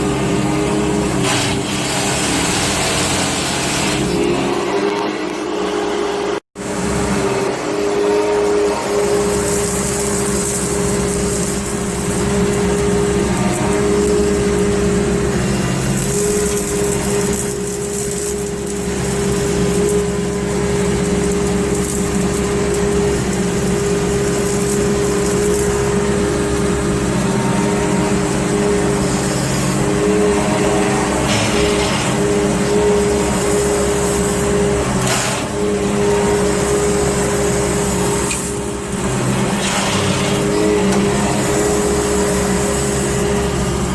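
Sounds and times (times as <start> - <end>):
excavator running: 0.0 - 43.9
rotary cutter hum: 0.0 - 43.9.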